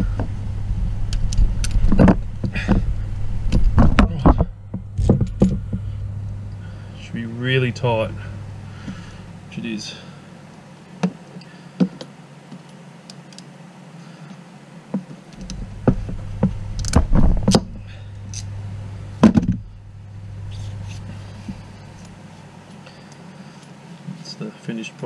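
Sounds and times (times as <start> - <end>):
low hum: 0.0 - 11.8, 15.2 - 24.0.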